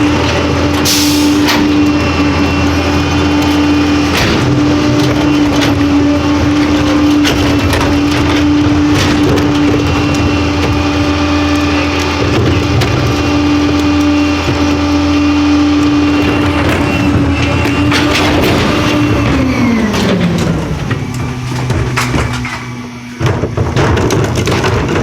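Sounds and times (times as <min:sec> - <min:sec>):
garbage truck engine whine: 0:00.0 - 0:25.0.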